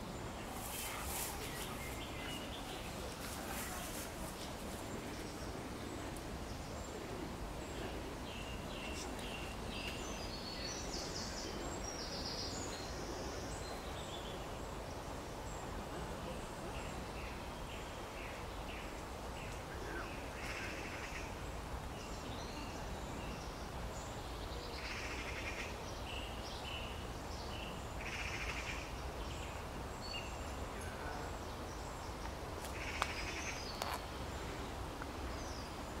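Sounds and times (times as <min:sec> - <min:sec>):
low background hiss: 0:00.0 - 0:36.0.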